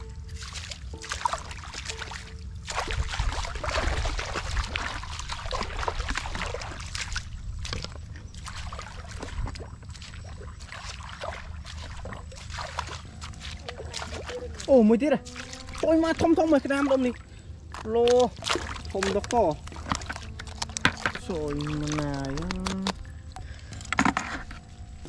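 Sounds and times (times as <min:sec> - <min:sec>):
feet splashing through muddy water: 0:00.0 - 0:25.0
steady low rumble: 0:00.0 - 0:25.0.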